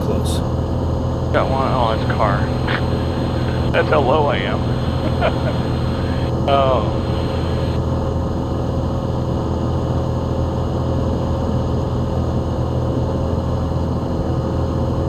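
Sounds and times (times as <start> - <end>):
airplane engine and propeller droning: 1.4 - 15.0.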